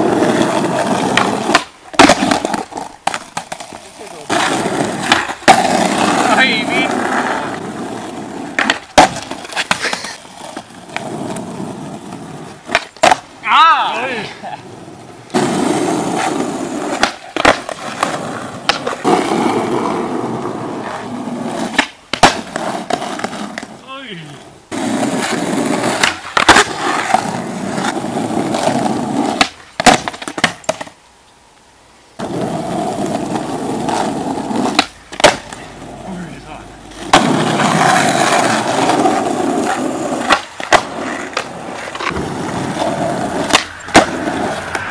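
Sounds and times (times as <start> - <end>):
skateboard clacking: 0.0 - 23.8, 24.7 - 31.0, 32.2 - 36.1, 36.9 - 44.9
skateboard wheels rolling on asphalt: 0.0 - 44.9.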